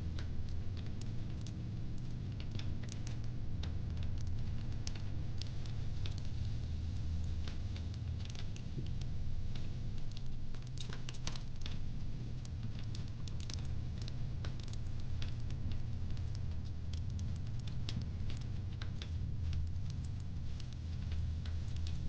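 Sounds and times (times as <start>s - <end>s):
low rumble of fire: 0.0s - 22.0s
wood fire crackling: 0.0s - 22.0s.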